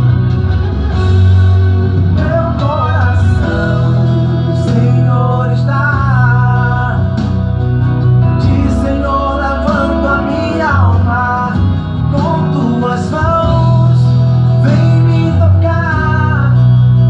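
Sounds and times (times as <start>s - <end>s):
backing track with guitar: 0.0s - 17.0s
steady bass line: 0.0s - 17.0s
man singing: 2.0s - 17.0s.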